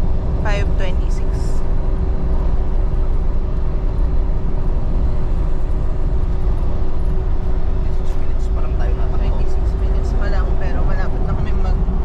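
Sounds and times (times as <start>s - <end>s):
constant hum: 0.0s - 12.0s
vehicle rumble: 0.0s - 12.0s.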